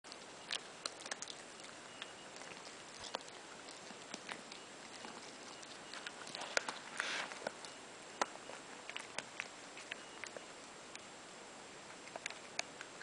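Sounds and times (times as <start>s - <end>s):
dog gnawing a chew bone: 0.0s - 11.1s, 11.7s - 13.0s.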